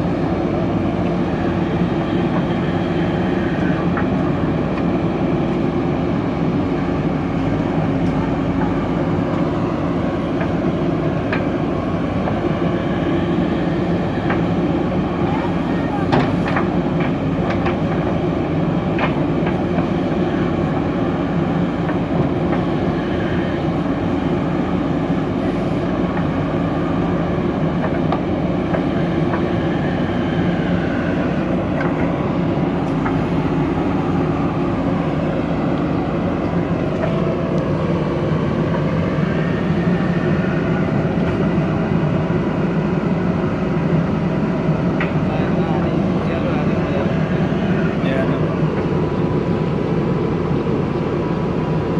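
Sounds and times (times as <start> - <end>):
diesel engine running under work: 0.0 - 51.9.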